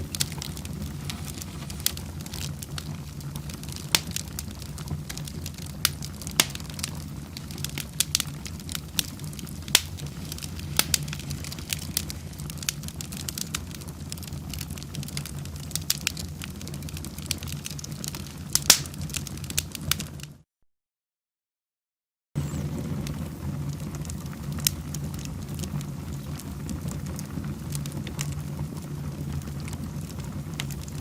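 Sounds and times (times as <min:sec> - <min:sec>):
wood fire crackling and popping: 0:00.0 - 0:20.4, 0:22.4 - 0:31.0.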